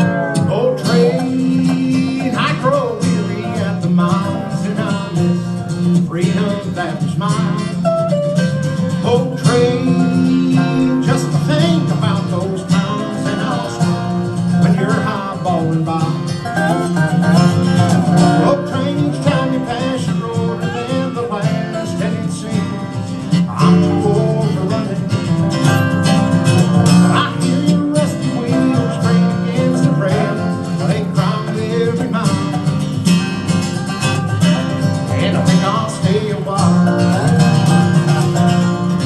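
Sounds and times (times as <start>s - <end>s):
acoustic bluegrass instrumental: 0.0s - 39.0s
fast picked acoustic guitar: 0.0s - 39.0s.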